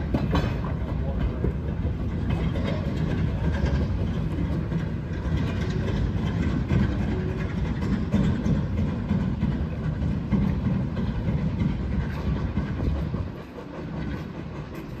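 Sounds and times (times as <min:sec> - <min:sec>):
steam locomotives working: 0:00.0 - 0:15.0
wagons rattling over rails: 0:00.0 - 0:15.0.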